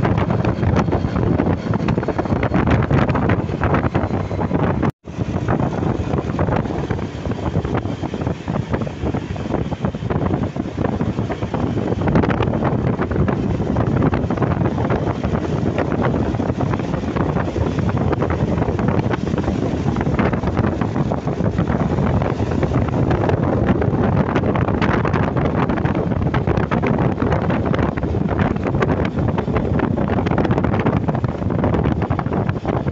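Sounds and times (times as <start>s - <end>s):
road and engine noise: 0.0s - 32.9s
wind buffeting microphone: 0.0s - 32.9s.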